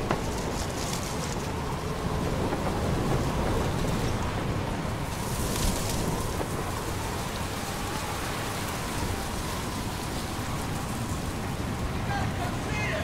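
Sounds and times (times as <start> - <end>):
low rumble of thunder: 0.0 - 13.0
strong wind gusting: 0.0 - 13.0.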